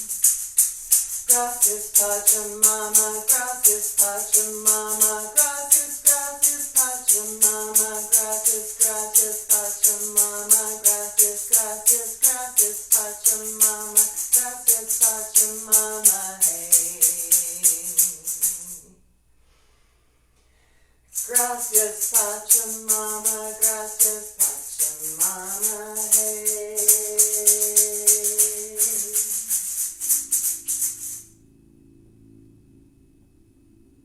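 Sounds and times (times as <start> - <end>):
hand rattle shaken: 0.0 - 18.9, 21.1 - 31.3
person singing a chant: 0.0 - 18.9, 21.2 - 31.2.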